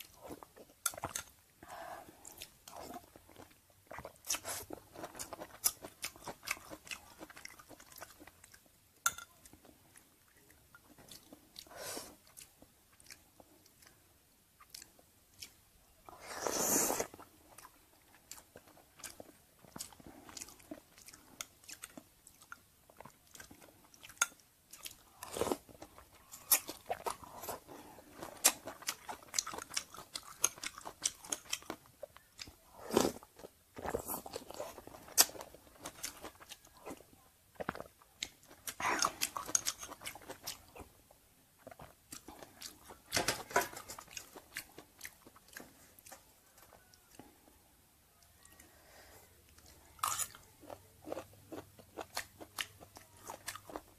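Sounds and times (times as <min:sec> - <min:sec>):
chewing and crunching food: 0:00.0 - 0:16.2, 0:17.0 - 0:47.6, 0:48.2 - 0:53.9.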